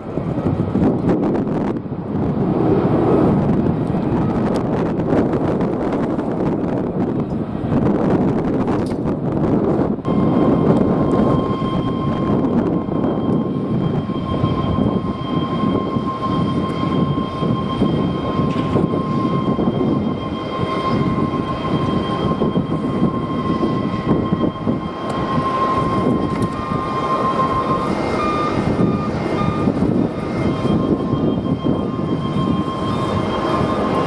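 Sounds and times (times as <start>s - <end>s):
jet engines whining: 0.0s - 34.0s
wind buffeting microphone: 0.0s - 34.0s.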